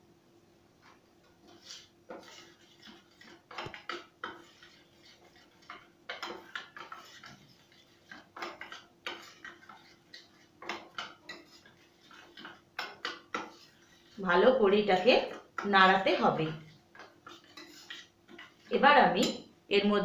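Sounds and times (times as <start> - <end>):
spoon scraping steel bowl: 1.4 - 19.5.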